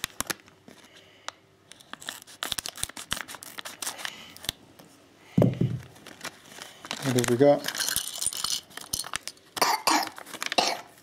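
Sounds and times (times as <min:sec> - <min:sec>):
plastic packet tearing and crinkling: 0:00.0 - 0:00.9, 0:01.7 - 0:04.6, 0:05.8 - 0:11.0.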